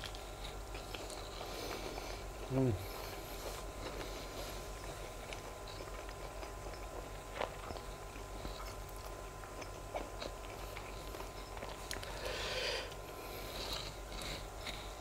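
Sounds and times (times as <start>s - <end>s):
faint steady hum: 0.0s - 15.0s
person chewing: 0.0s - 15.0s.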